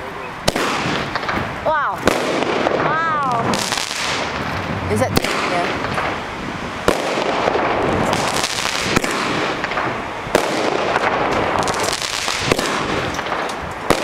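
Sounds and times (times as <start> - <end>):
fireworks bangs: 0.0 - 14.0
fireworks crackling: 0.0 - 14.0.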